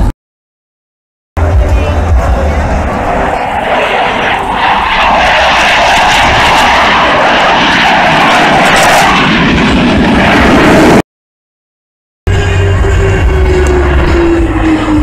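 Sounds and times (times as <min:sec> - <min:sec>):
fighter jets flying low: 0:01.4 - 0:11.0, 0:12.3 - 0:15.0.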